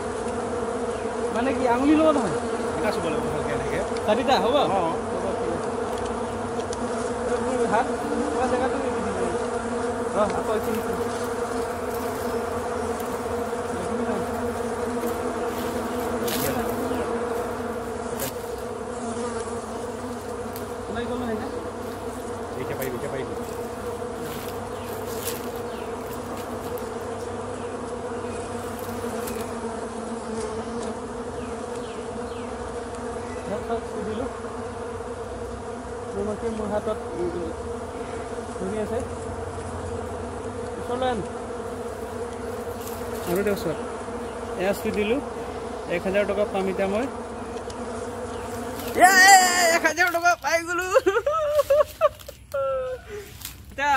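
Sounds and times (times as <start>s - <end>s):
wasps buzzing: 0.0s - 53.9s.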